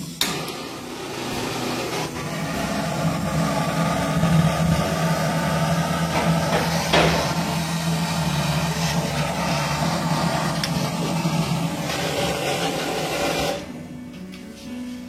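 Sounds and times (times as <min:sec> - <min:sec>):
motor humming and hissing: 0:00.0 - 0:14.0.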